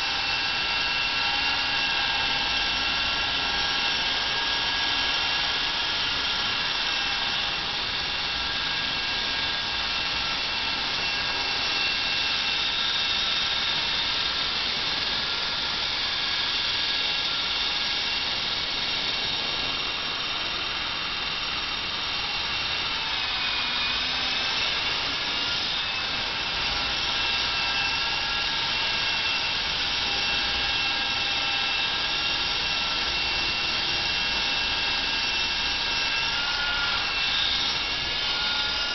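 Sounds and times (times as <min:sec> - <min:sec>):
model helicopter high whine: 0:00.0 - 0:38.9.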